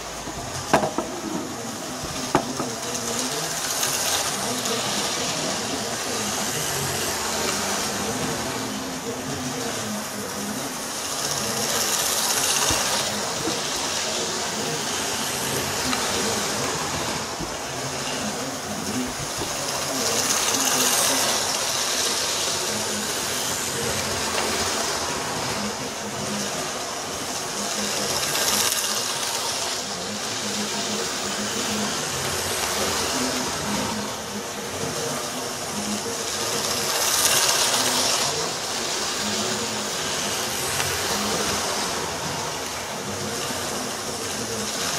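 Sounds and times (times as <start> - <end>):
model train motors whirring: 0.0 - 44.9
wheels running on rails: 0.0 - 44.9.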